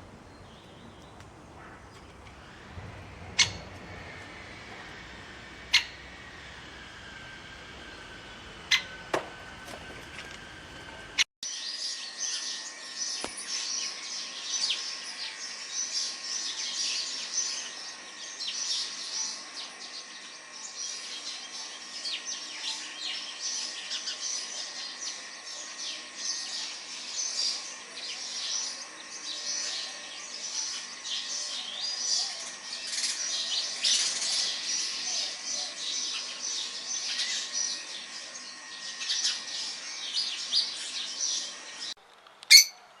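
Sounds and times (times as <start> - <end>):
flock of small birds chirping: 0.0 - 42.7
faint steady hum: 0.0 - 43.0.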